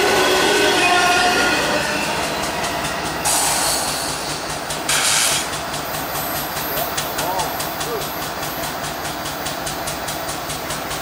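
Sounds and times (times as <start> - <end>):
freight train rumble: 0.0 - 11.0
train wheels clicking over rail joints: 1.9 - 11.0.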